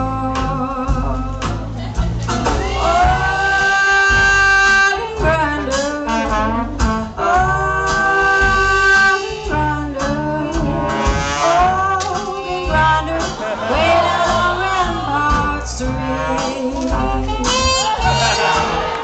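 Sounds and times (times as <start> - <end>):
pulsing bass line: 0.0 - 19.0
person singing long notes: 2.6 - 18.7.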